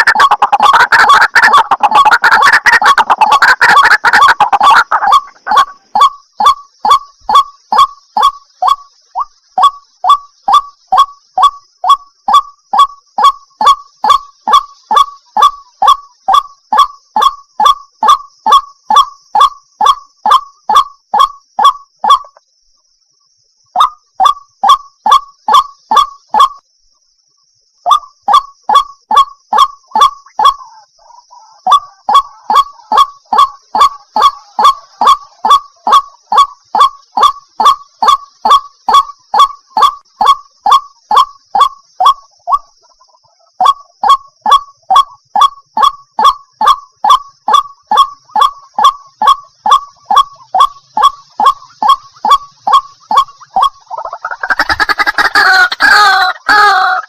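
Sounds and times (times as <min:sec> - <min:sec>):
bird call recording: 0:00.0 - 0:57.0.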